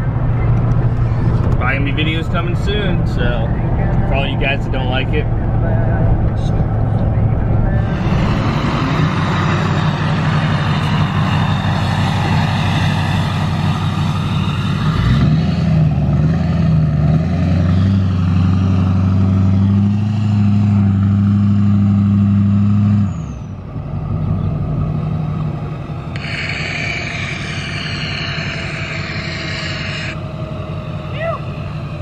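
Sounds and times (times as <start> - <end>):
diesel truck engine under load: 0.0 - 32.0.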